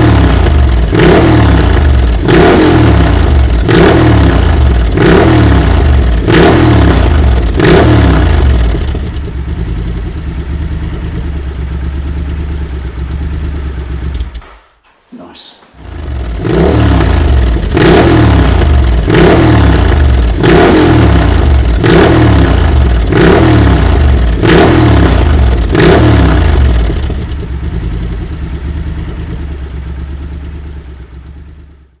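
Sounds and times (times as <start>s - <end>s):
motorcycle engine idling: 0.0s - 14.7s, 15.8s - 32.0s
motorcycle engine revving: 0.0s - 14.7s, 15.8s - 32.0s.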